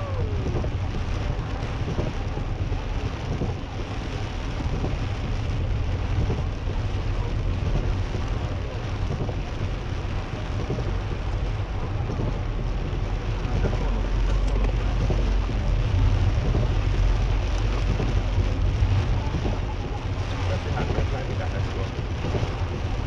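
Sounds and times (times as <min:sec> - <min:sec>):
low car rumble: 0:00.0 - 0:23.0
rain falling on a car: 0:00.0 - 0:23.0
tyre noise on wet road: 0:00.0 - 0:23.0.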